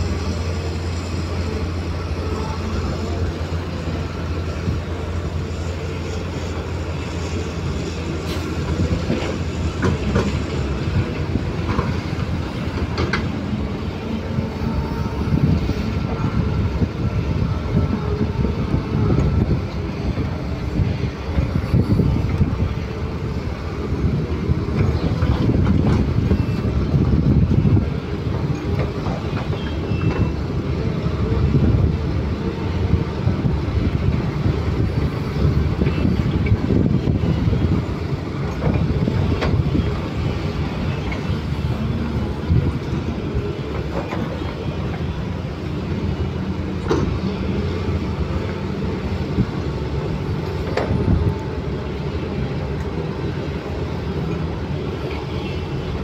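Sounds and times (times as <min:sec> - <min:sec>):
excavator diesel engine surging: 0:00.0 - 0:56.0.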